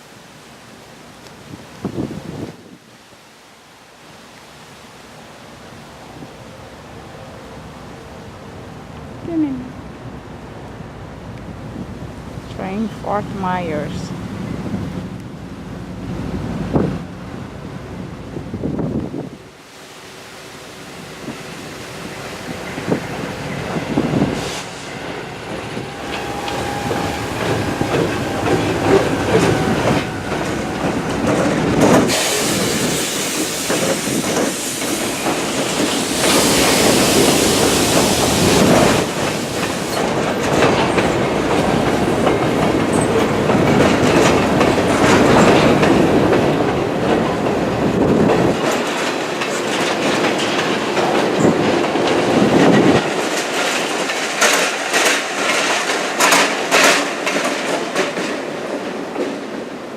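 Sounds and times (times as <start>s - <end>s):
freight train wheels on rails: 10.1s - 59.9s.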